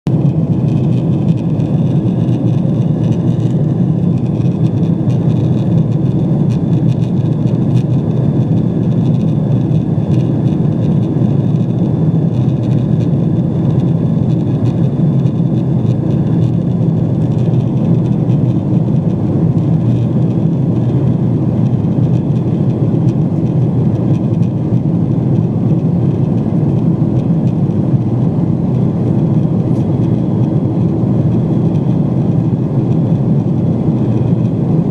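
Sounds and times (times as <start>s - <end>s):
aircraft cabin engine rush: 0.1s - 34.9s.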